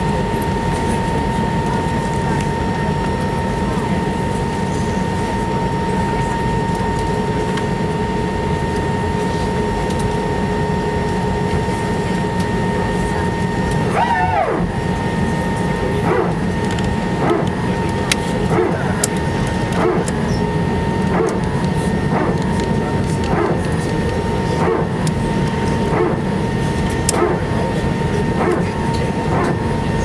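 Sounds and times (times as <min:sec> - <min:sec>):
aircraft engine and airflow hum: 0:00.0 - 0:30.0.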